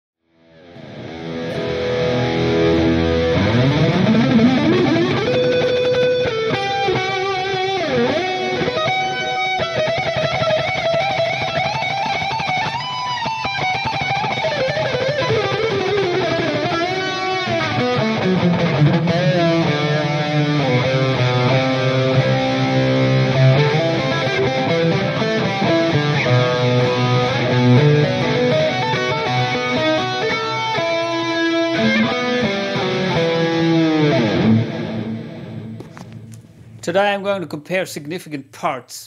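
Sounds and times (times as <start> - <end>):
electric guitar lead line: 0.3 - 36.8.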